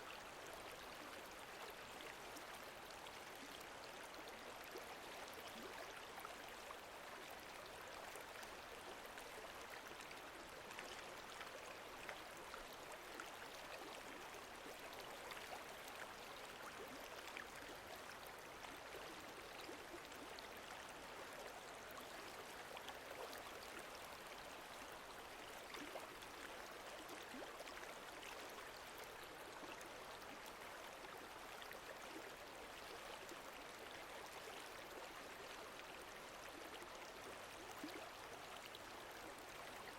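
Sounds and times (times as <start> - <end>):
small ticks and drips: 0.0 - 39.9.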